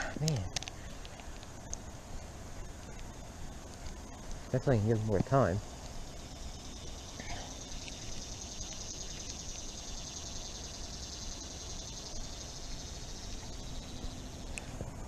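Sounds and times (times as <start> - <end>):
high-pitched insect trill: 0.0 - 15.0
low outdoor background hum: 0.0 - 15.0.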